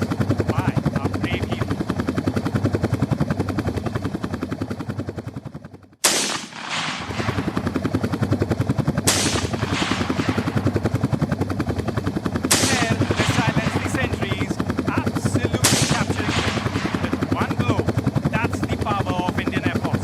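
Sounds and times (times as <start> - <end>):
helicopter rotor chopping: 0.0 - 20.0.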